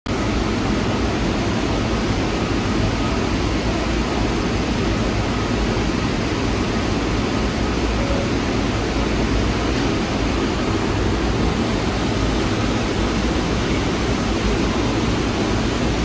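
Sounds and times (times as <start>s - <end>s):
subway train rumbling: 0.1s - 16.0s.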